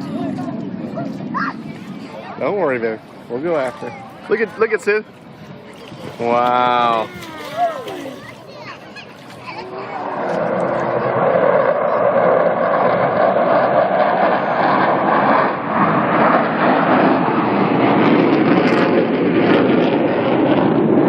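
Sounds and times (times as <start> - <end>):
military jet roaring past: 0.0 - 21.0.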